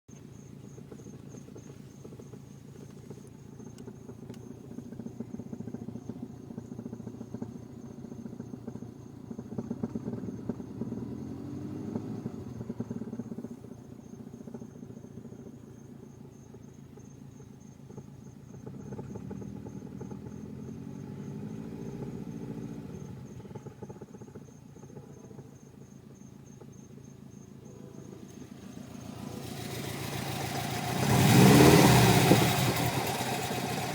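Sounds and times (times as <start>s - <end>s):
car engine idling with thumping: 0.0s - 33.9s.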